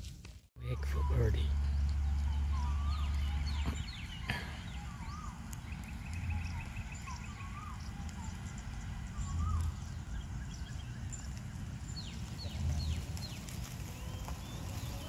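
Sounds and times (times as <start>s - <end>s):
birds whistling and chirping: 0.6s - 15.0s
low rumble: 0.6s - 15.0s
bird trill: 0.7s - 15.0s.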